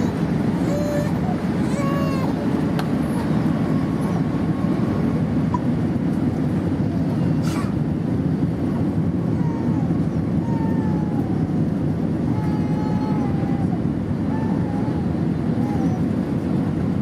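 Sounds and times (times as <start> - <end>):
faint jet engine whine: 0.0 - 17.0
wind rumbling on microphone: 0.0 - 17.0.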